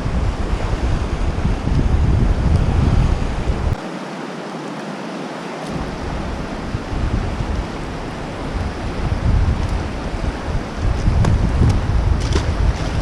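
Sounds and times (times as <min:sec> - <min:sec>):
wind buffeting microphone: 0:00.0 - 0:03.9, 0:05.7 - 0:13.0
river water rushing through rapids: 0:00.0 - 0:13.0.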